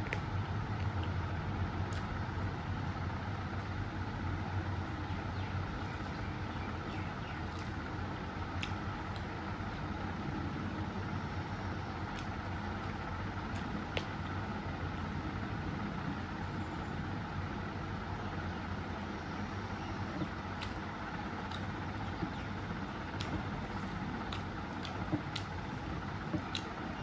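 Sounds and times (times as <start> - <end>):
low mechanical hum and hiss: 0.0 - 27.0.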